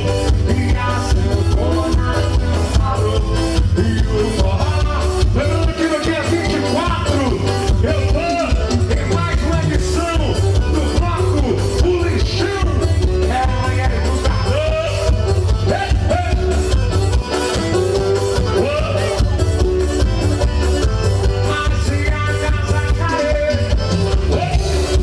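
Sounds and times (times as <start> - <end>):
person singing: 0.0 - 16.8, 21.1 - 25.0
band music with fast beat: 0.0 - 25.0.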